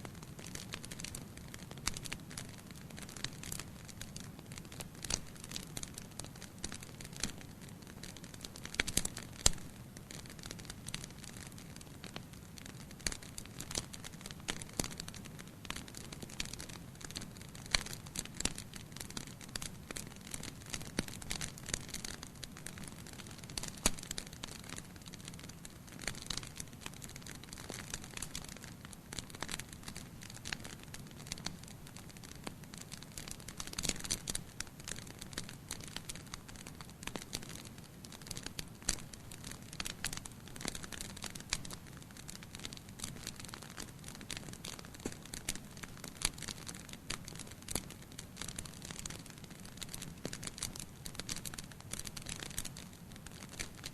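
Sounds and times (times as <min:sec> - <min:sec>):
low background noise: 0:00.0 - 0:53.9
campfire pops and snaps: 0:00.1 - 0:53.9.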